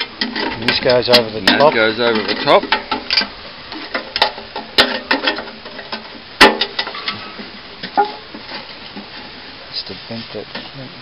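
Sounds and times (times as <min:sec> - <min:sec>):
metal clanking and rattling: 0:00.0 - 0:09.6.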